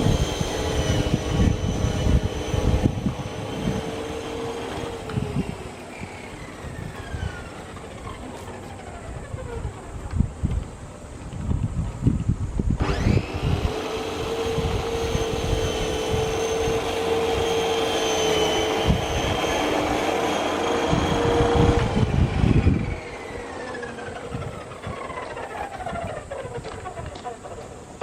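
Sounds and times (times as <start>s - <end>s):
lawn mower motor whining: 0.0s - 28.0s
lawn mower spinning down: 0.0s - 28.0s.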